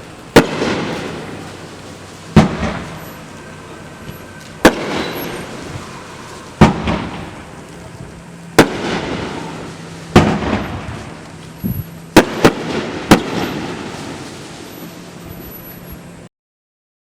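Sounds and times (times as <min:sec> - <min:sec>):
fireworks bangs: 0:00.0 - 0:16.2.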